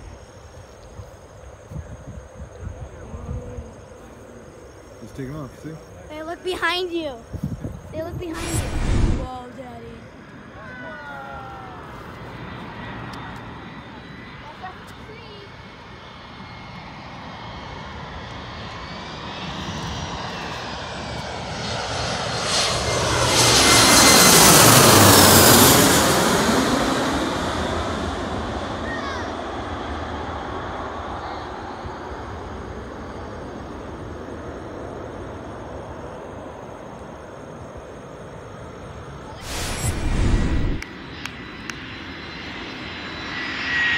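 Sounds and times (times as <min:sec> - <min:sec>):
jet airliner passing overhead: 0:00.0 - 0:43.9.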